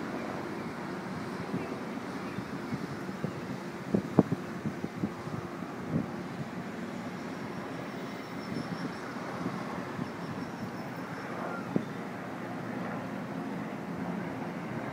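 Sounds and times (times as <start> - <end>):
distant city traffic hum: 0.0 - 14.9.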